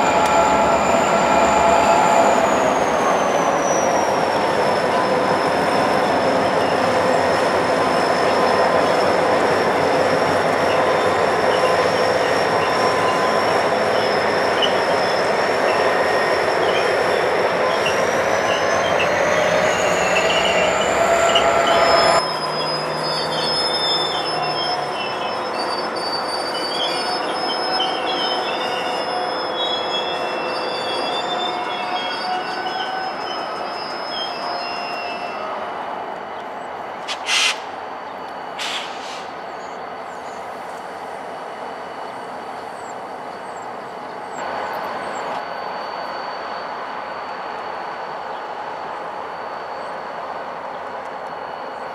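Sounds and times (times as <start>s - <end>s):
steel wheels squealing on rail: 0.0s - 51.9s.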